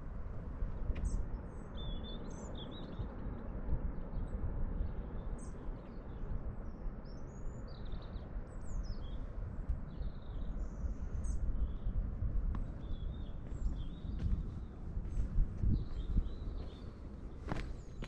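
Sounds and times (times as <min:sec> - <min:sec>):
wind buffeting microphone: 0:00.0 - 0:18.0
small birds chirping: 0:00.7 - 0:18.0.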